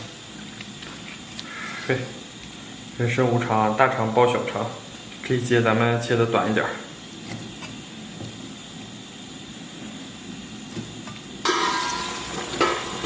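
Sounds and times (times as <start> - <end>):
pot hissing with steam: 0.0 - 13.0.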